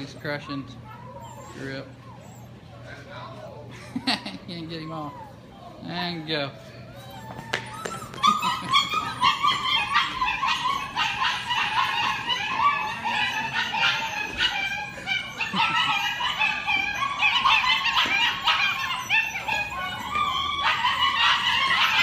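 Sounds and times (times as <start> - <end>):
puppies yipping and barking: 0.0 - 22.0.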